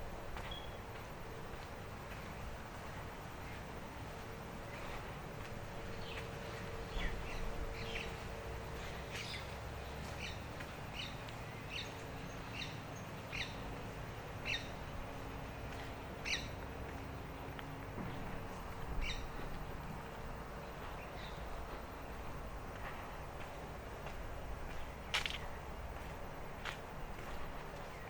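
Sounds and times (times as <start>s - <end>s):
faint outdoor background hum: 0.0s - 28.0s.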